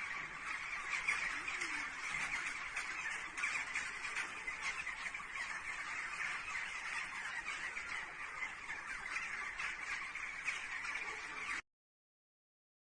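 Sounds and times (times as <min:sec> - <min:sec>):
flock of birds calling: 0:00.0 - 0:11.6.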